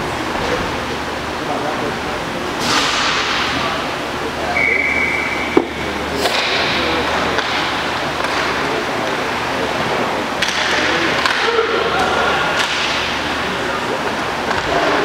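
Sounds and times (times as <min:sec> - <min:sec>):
echoing rink noise: 0:02.6 - 0:15.0.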